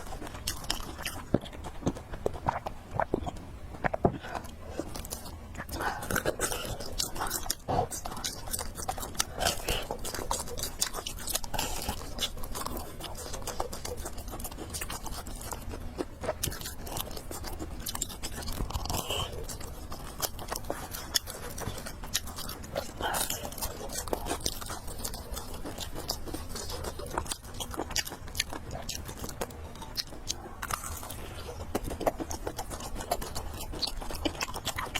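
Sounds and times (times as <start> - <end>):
person chewing and slurping: 0.0 - 34.9.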